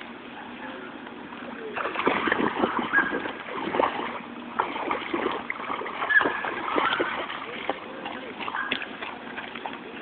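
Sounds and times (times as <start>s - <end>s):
feet splashing in puddle: 1.8s - 10.0s.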